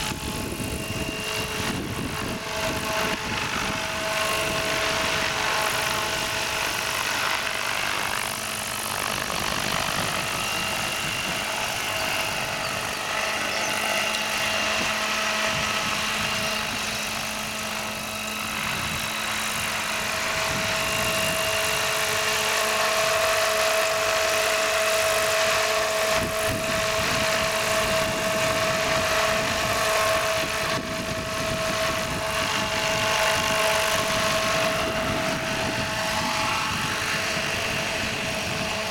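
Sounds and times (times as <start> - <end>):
model helicopter rotor whine: 0.0 - 38.9.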